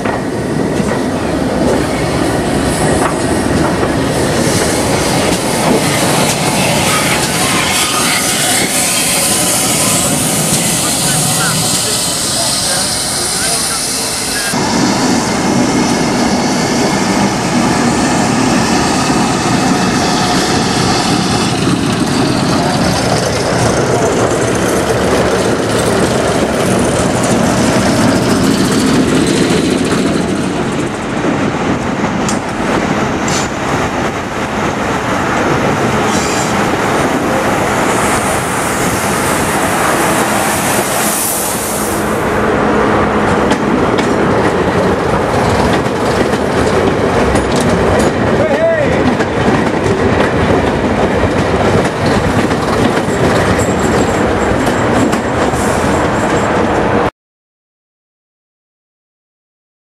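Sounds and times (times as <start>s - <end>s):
train wheels rumbling on rail: 0.0s - 57.1s.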